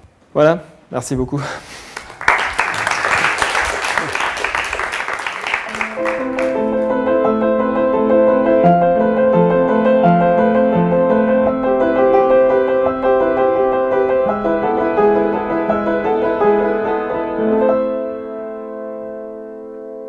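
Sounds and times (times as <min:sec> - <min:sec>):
piano music: 0:03.0 - 0:20.0.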